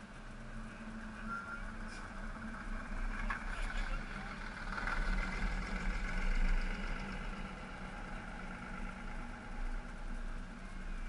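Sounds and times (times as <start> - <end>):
cars and bus driving past: 0.0 - 11.0.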